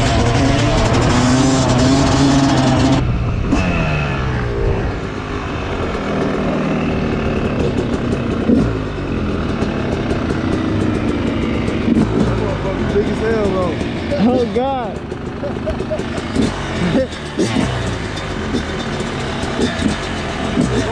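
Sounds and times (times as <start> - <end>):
two-stroke dirt bike engine: 0.0 - 20.9.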